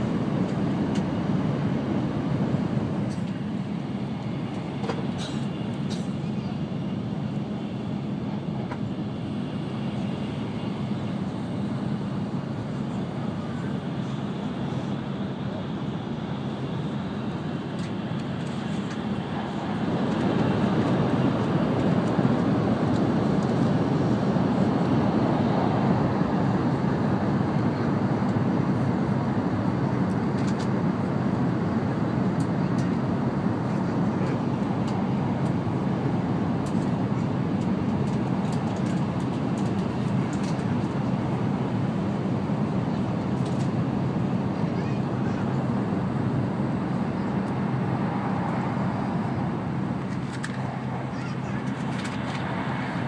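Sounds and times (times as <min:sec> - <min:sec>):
train cabin rumble and air noise: 0:00.0 - 0:53.0.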